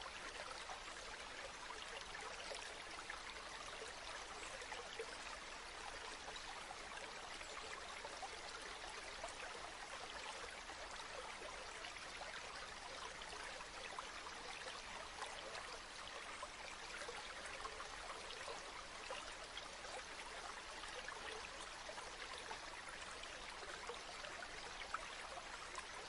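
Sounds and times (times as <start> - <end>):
river water babbling: 0.0 - 26.0.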